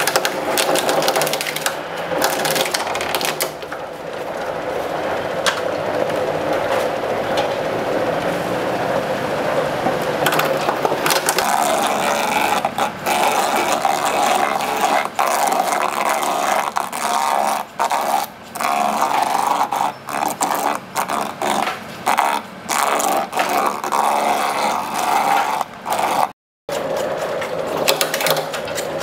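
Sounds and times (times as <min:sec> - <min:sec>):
machine grating coconut: 0:00.0 - 0:29.0.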